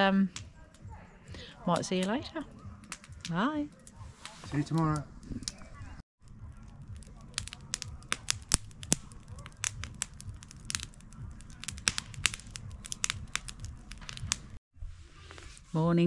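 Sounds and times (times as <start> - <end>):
campfire crackling and popping: 0.0 - 14.6.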